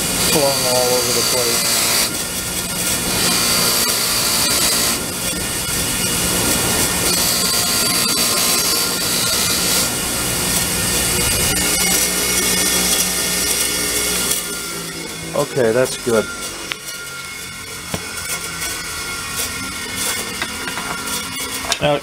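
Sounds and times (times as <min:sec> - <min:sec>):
bench grinder motor hum: 0:00.0 - 0:22.0
wire wheel rasping hiss: 0:00.0 - 0:22.0.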